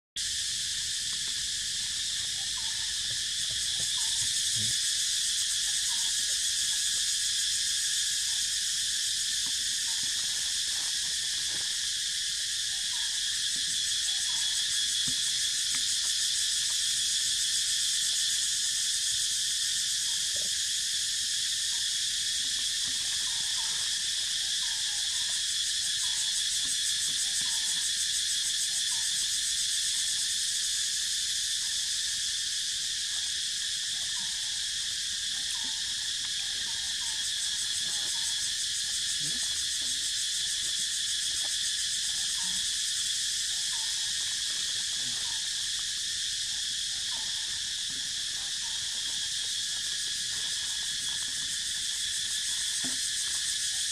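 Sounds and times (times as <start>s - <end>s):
insects droning: 0.2s - 53.9s.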